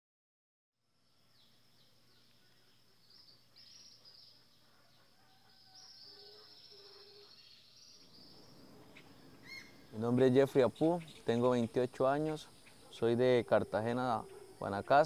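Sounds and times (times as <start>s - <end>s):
birds chirping: 1.0s - 15.0s
lower bird calls: 1.3s - 15.0s.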